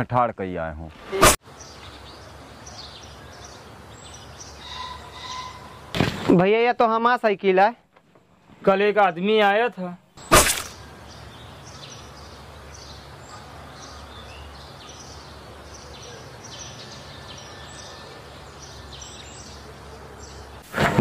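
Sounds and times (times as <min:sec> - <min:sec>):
birds chirping: 0:01.1 - 0:06.3, 0:07.8 - 0:20.7.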